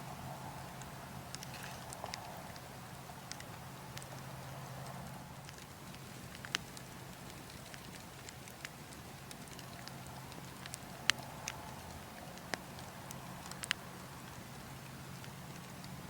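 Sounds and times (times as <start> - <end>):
burning logs crackling: 0.0 - 16.0
steady low background noise: 0.0 - 16.0.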